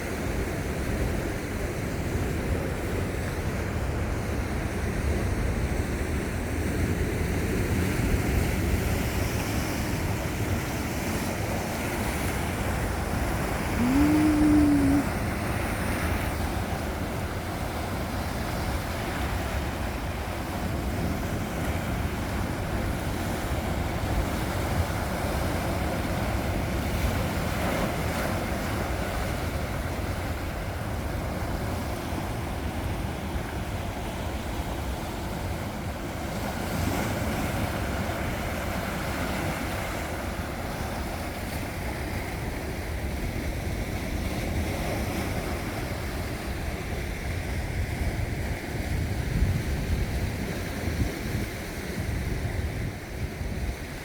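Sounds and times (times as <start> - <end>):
sea waves washing ashore: 0.0 - 54.0.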